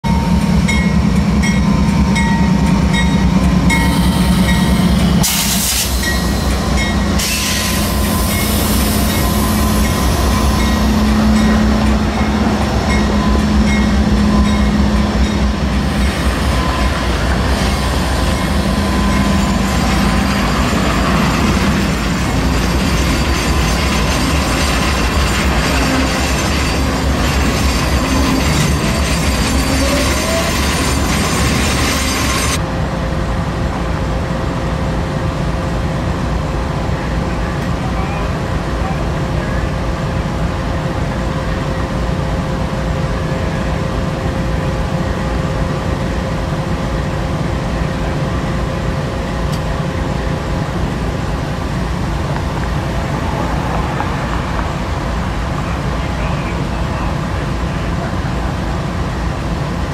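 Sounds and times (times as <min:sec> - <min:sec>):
locomotive engine drone: 0:00.0 - 0:59.9
train wheels rumbling on rails: 0:00.0 - 0:59.9.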